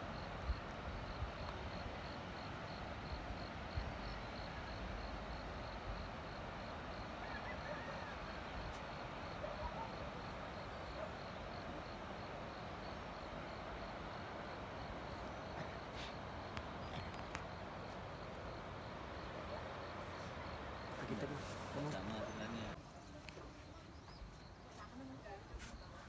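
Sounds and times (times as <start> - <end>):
insects chorus: 0.0 - 22.8.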